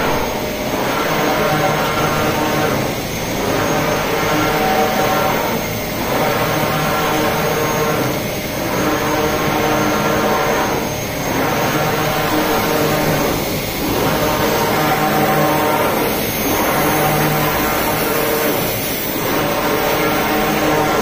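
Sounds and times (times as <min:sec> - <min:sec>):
printer machine drone: 0:00.0 - 0:21.0.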